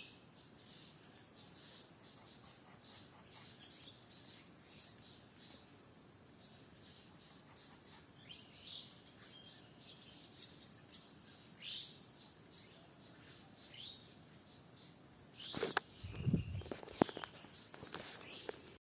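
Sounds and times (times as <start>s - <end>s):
insect drone: 0.0s - 18.8s
wild birds calling: 0.0s - 18.8s.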